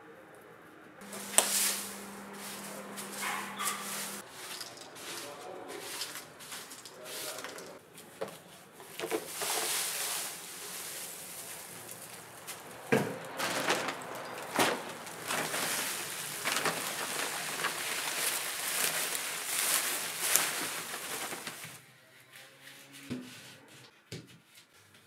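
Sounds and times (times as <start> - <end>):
broom sweeping leaves on concrete: 1.0 - 21.8
leaves rustling into plastic bag: 1.0 - 21.8
plastic dustpan scraping: 1.0 - 21.8.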